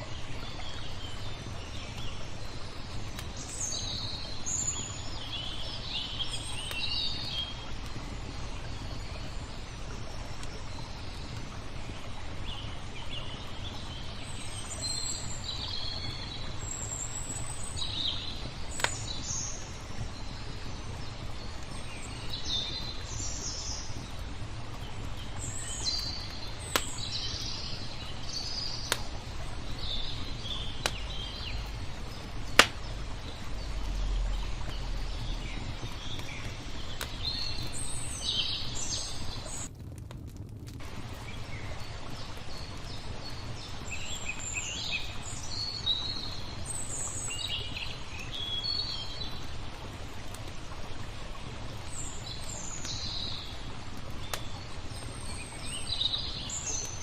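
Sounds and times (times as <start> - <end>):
songbirds chirping: 0.0 - 39.7, 40.8 - 57.0
wood fire popping: 0.0 - 57.0.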